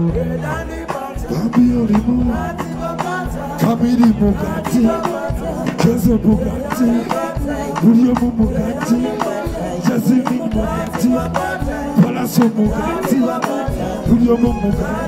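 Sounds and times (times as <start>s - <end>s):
live band music: 0.0s - 15.0s
man singing into a microphone: 0.0s - 15.0s.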